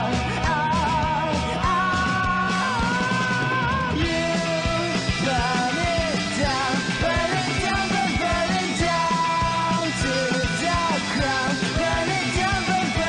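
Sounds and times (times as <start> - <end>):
rock band with singing: 0.0 - 13.0
steady drum beat: 0.0 - 13.0.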